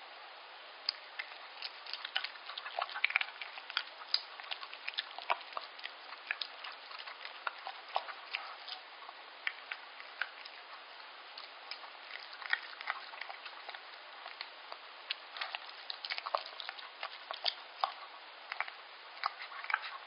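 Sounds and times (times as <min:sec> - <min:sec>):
dog chewing and licking: 0:00.9 - 0:20.0.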